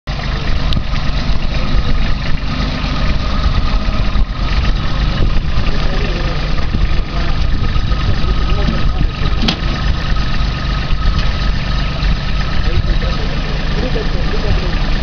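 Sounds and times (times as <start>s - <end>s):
tractor diesel engine chugging: 0.1s - 15.0s.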